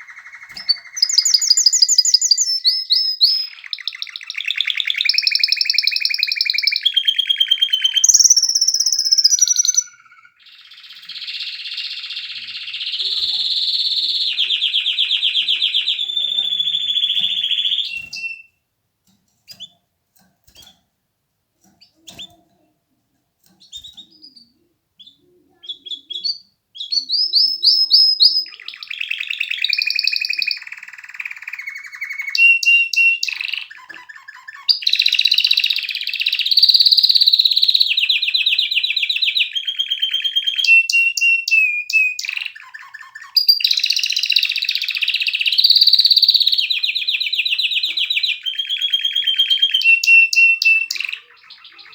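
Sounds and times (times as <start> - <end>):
canary singing: 0.0 - 18.6, 19.3 - 20.9, 21.6 - 22.7, 23.4 - 51.9.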